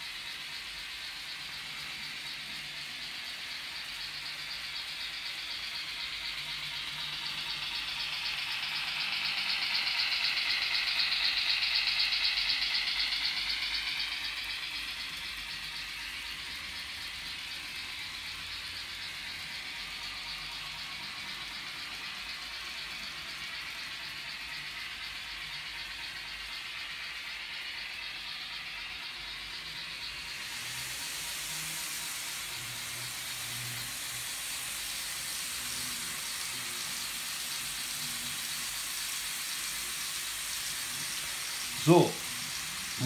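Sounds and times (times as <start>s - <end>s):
model train rattling along track: 0.0s - 43.0s.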